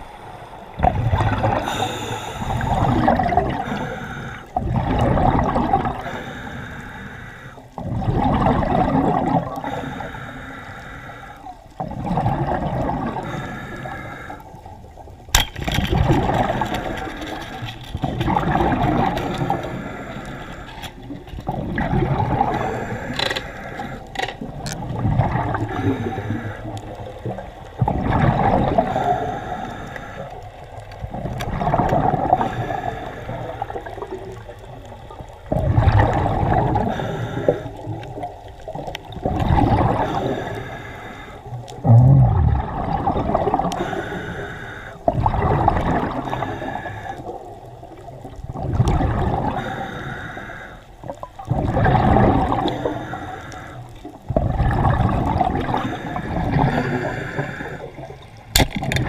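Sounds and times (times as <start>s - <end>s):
muffled water sloshing and gurgling: 0.0s - 59.0s.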